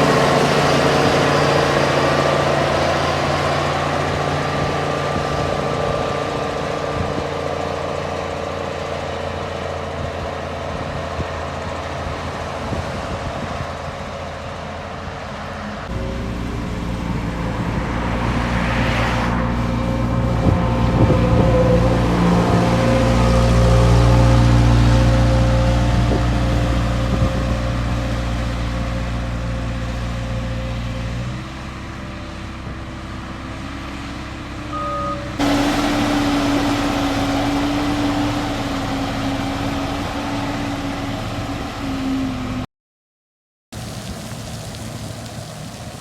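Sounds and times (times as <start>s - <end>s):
heavy machinery diesel engine: 0.0s - 42.7s.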